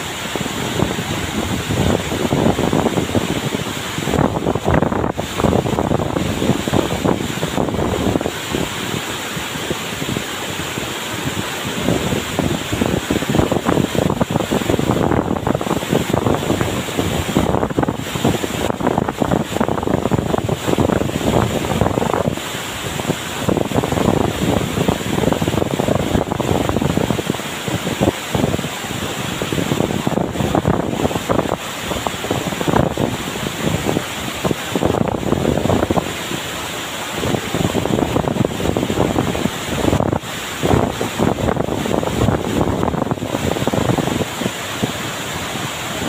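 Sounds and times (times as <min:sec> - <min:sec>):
waterfall rushing into pool: 0:00.0 - 0:46.0
wind buffeting microphone: 0:00.0 - 0:46.0.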